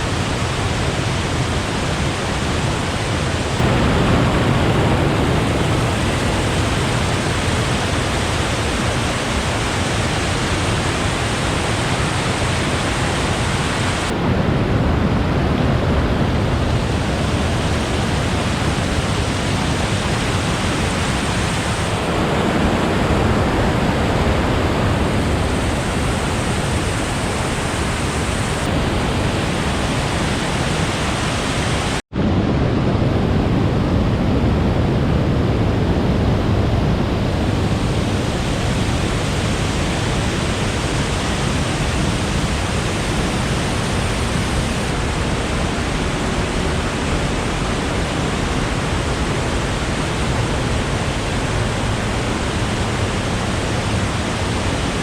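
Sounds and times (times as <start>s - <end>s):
rush of falling water: 0.0s - 33.0s, 35.4s - 55.0s.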